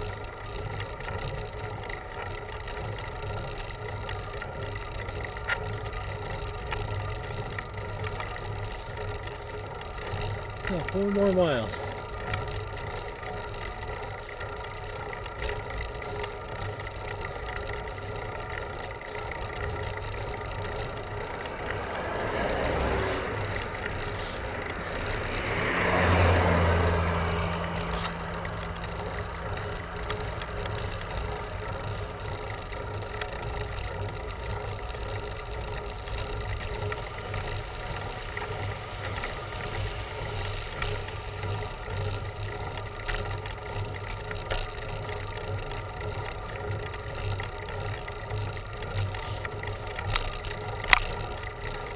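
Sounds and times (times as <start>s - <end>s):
bicycle road noise: 0.0s - 51.9s
low engine drone: 0.0s - 51.9s
motor vehicles passing: 0.0s - 51.9s.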